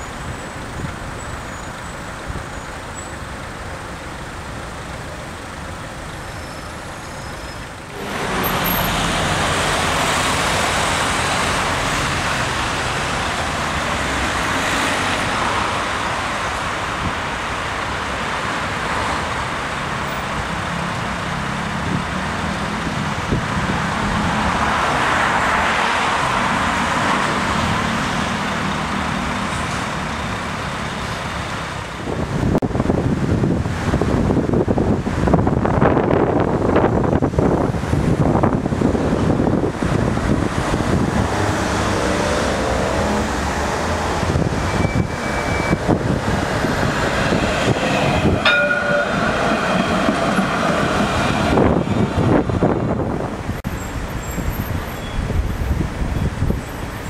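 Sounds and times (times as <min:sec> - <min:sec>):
electric tram hum and hiss: 0:00.0 - 0:56.6
street traffic: 0:00.0 - 0:57.0.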